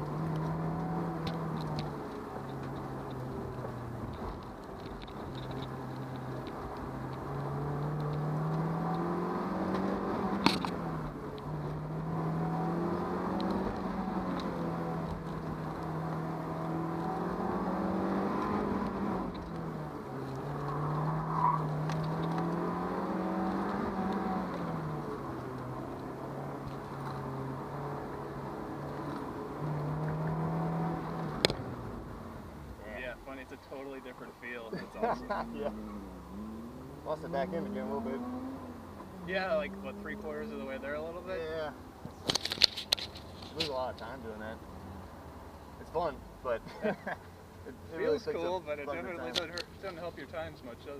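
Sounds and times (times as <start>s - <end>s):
car engine accelerating: 0.0s - 50.9s.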